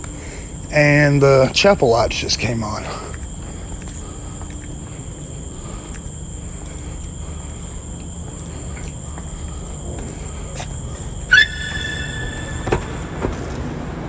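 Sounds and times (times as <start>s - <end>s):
crickets trilling: 0.0s - 14.0s
low steady rumble: 0.0s - 14.0s.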